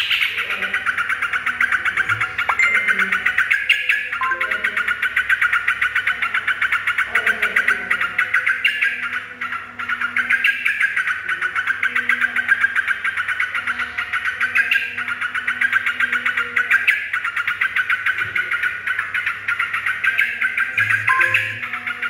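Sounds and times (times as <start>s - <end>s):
bird chattering chirps: 0.0s - 22.0s.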